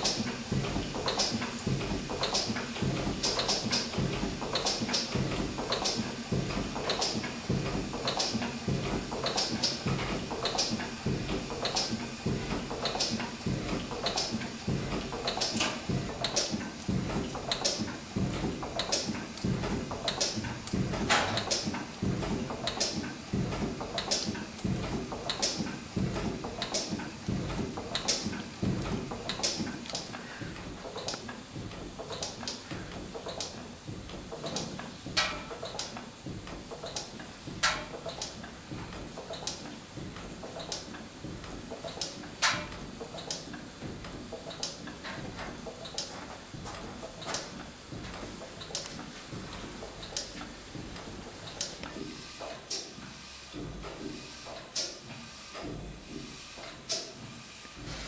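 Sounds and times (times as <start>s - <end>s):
steam engine running: 0.0s - 54.6s.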